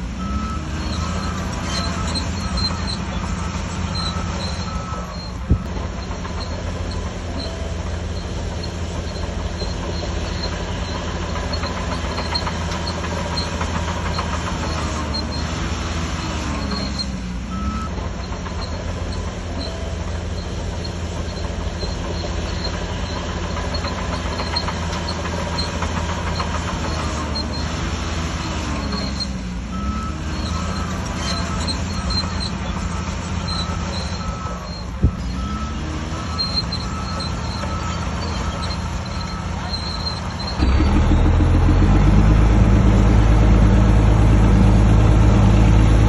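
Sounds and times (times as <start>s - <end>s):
bulldozer diesel engine running: 0.0s - 46.0s
high metallic squeaks: 0.6s - 17.2s, 18.2s - 41.7s.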